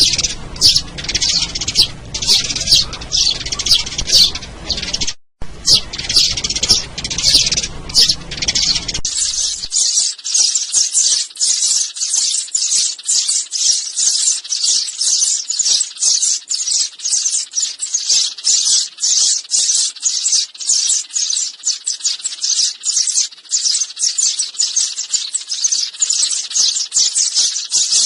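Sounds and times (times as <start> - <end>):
sparrows chirping: 0.0 - 28.0.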